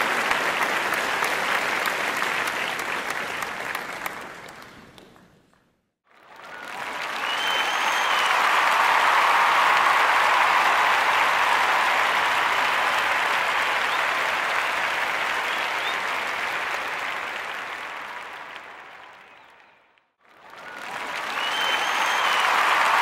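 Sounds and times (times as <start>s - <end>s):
crowd applauding: 0.0s - 5.3s, 6.1s - 23.0s.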